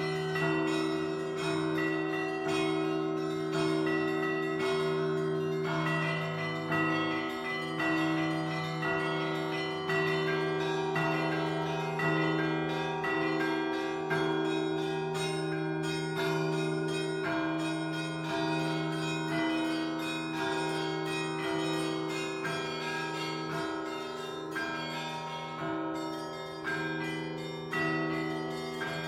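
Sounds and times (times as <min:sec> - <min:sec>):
church bells ringing: 0:00.0 - 0:29.0.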